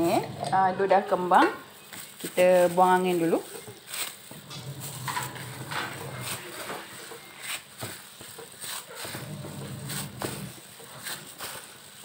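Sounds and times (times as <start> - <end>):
dough being kneaded: 0.0 - 12.0.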